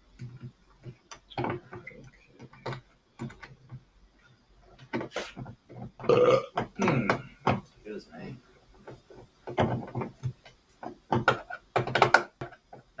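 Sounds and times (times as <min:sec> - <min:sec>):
plastic clicks and knocks: 0:00.1 - 0:03.9, 0:04.8 - 0:07.7, 0:08.8 - 0:13.0.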